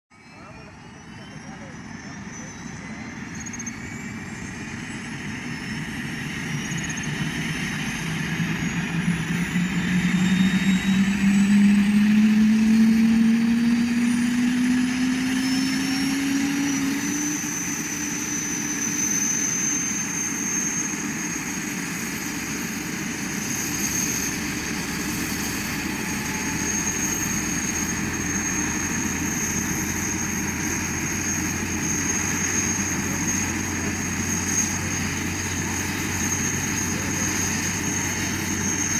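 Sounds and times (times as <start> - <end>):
helicopter engine and rotor whine: 0.2 - 38.9.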